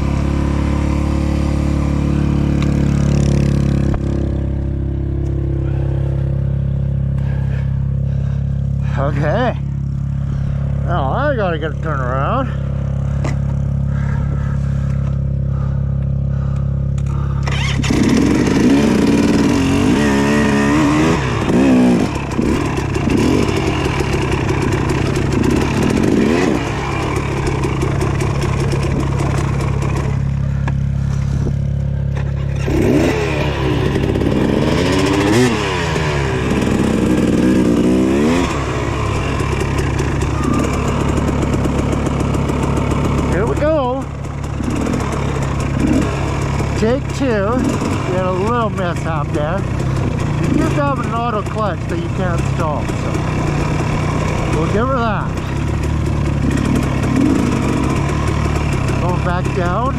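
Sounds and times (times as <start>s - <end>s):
dirt bike engine idling and revving: 0.0s - 59.9s.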